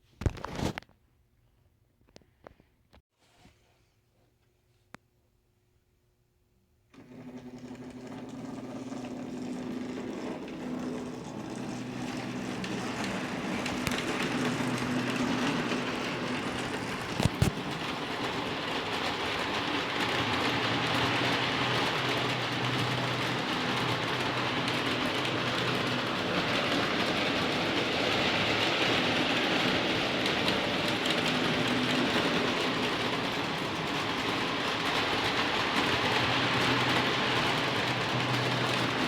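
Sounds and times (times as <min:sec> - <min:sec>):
model train motor hum: 0:07.0 - 0:39.0
wheels rolling on rails: 0:07.0 - 0:39.0.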